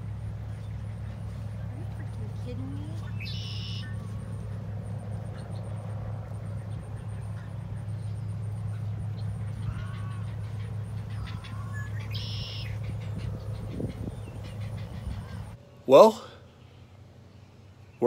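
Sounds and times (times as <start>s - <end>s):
bird calls and chirps: 0.0s - 18.0s
steady low hum: 0.0s - 18.0s.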